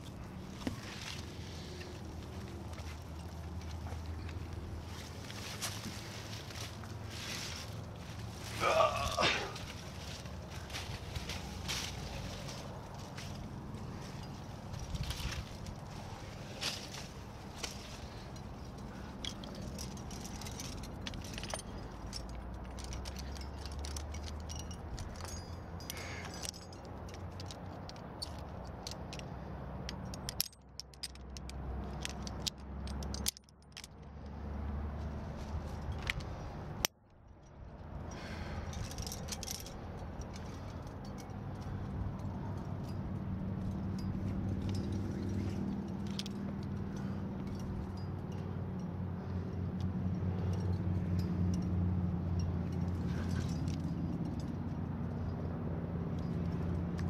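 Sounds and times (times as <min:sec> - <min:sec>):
metal climbing gear clinking: 0:00.0 - 0:34.4, 0:35.2 - 0:57.0.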